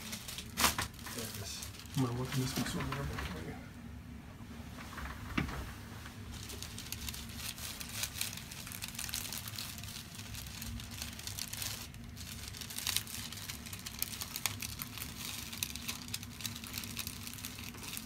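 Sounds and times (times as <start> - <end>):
crinkling and rustling: 0.0 - 3.6, 4.6 - 18.0
steady low hum: 0.0 - 18.0.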